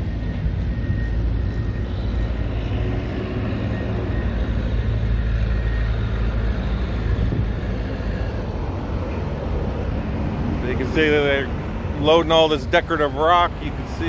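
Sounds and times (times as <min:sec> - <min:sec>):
road vehicles rumbling: 0:00.0 - 0:14.0.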